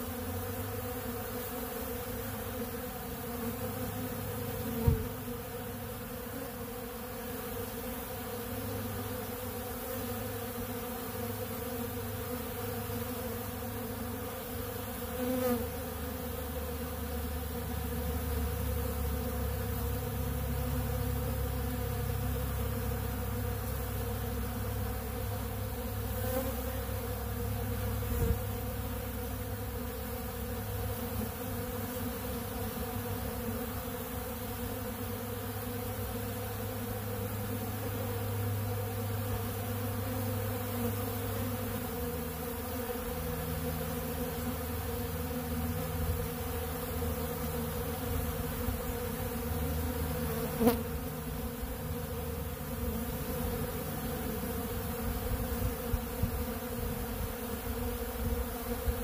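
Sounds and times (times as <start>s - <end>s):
honeybees buzzing: 0.0s - 59.0s.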